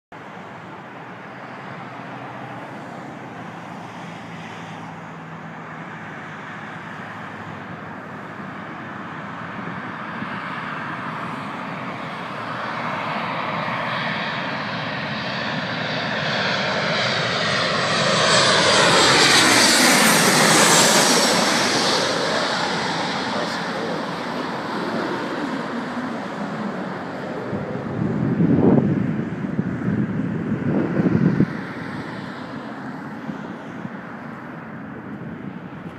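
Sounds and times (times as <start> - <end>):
jet airliner passing overhead: 0.2 - 35.9.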